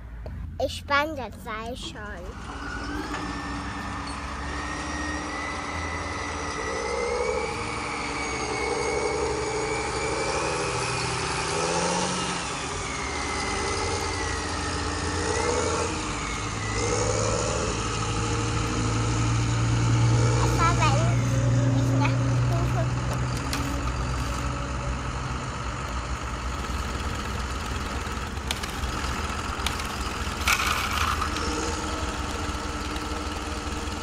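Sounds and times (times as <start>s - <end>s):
toy tractor motor whining: 1.8s - 34.0s.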